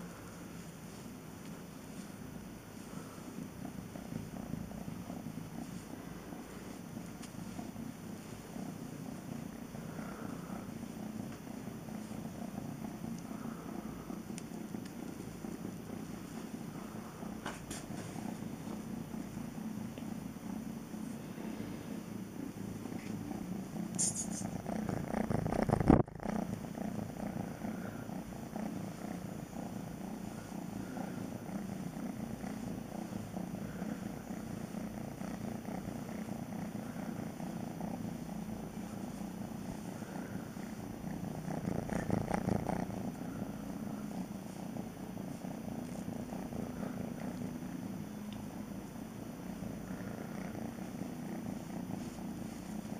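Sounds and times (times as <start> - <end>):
kitten purring: 0.0 - 52.9.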